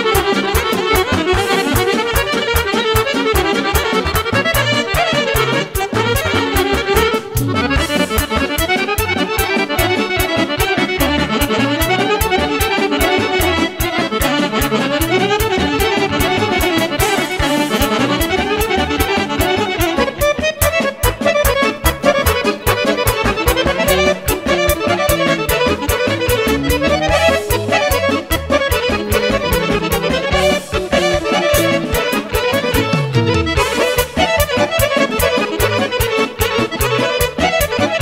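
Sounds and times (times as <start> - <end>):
accordion melody: 0.0 - 38.0
band playing dance tune: 0.0 - 38.0.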